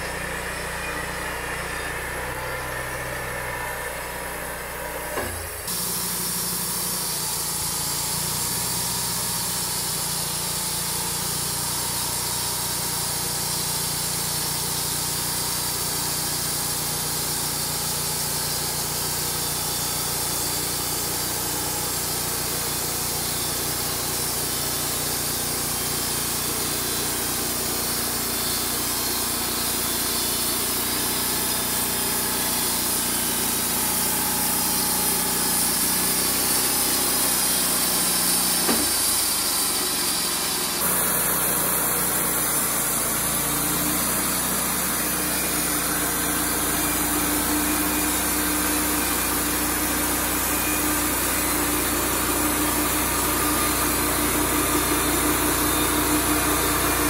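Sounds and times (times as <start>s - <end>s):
sawmill engine running: 0.0s - 57.0s
high hiss of blade cutting: 5.2s - 57.0s.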